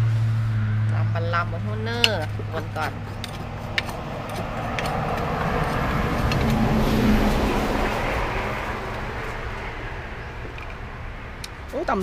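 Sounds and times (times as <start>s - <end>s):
vehicle driving past: 0.0s - 11.7s.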